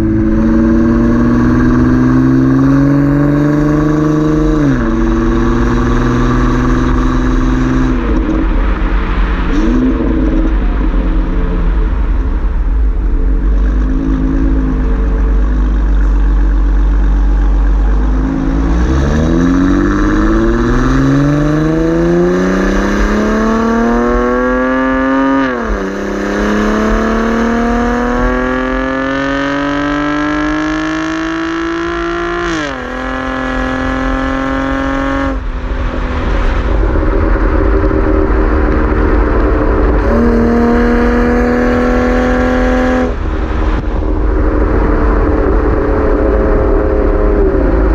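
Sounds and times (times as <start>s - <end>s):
low exhaust rumble: 0.0s - 29.0s, 34.9s - 47.9s
car engine accelerating: 0.0s - 47.9s.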